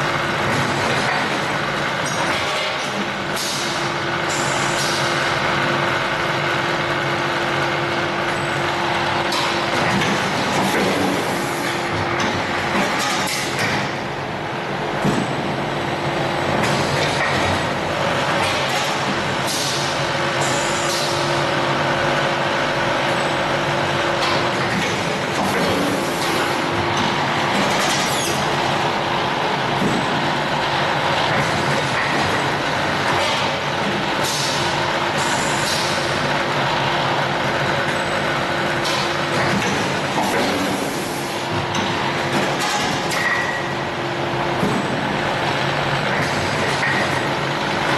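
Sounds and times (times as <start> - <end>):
machinery running: 0.0 - 47.9.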